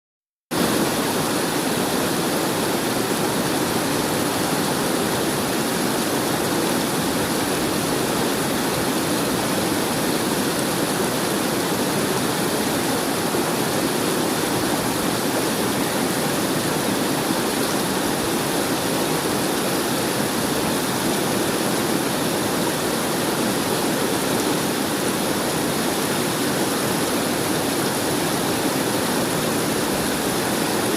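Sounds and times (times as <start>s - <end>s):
river water flowing: 0.6s - 30.9s.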